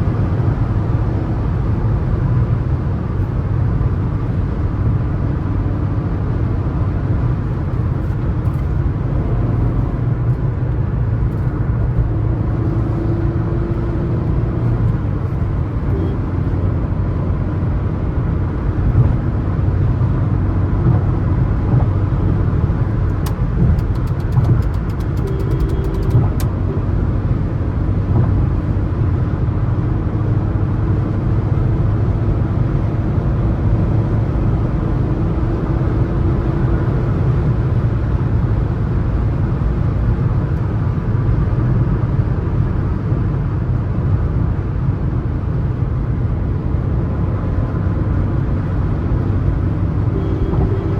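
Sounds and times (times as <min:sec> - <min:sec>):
engine and road noise drone: 0:00.0 - 0:50.9.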